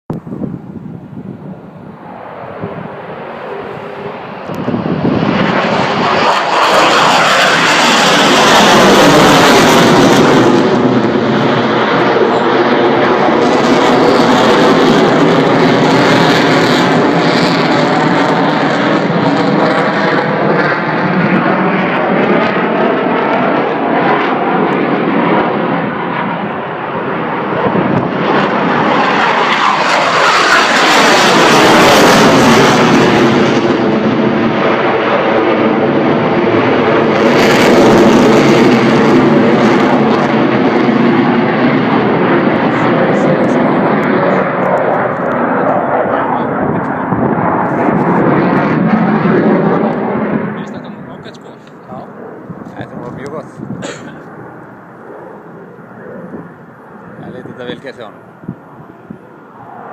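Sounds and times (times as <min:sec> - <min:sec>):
jet engines flying past: 0:00.1 - 0:59.9.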